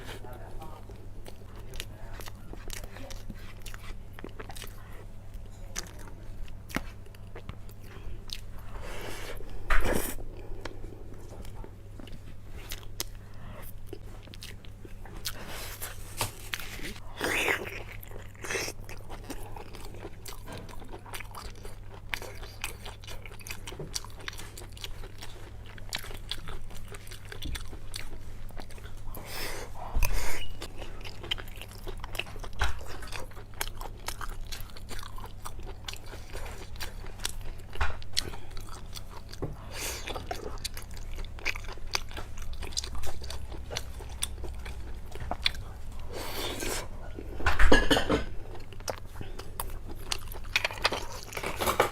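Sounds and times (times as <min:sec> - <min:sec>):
person chewing and biting food: 0:01.2 - 0:47.0, 0:48.4 - 0:51.9.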